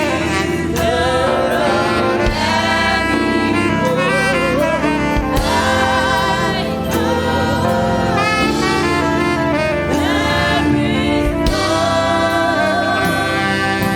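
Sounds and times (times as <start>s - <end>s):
church band playing worship music: 0.0s - 13.9s.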